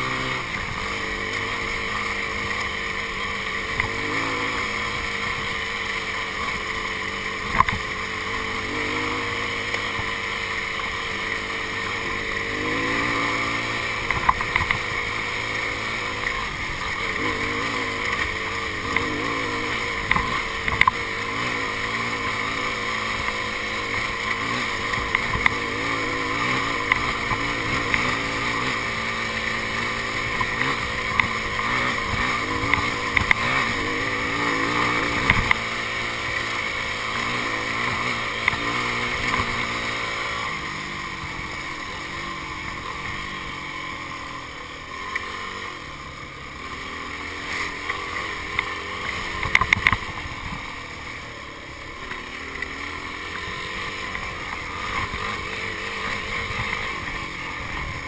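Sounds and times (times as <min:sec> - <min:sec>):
knocks and rattles from bike: 0:00.0 - 0:58.0
motorcycle engine revving: 0:00.0 - 0:58.0.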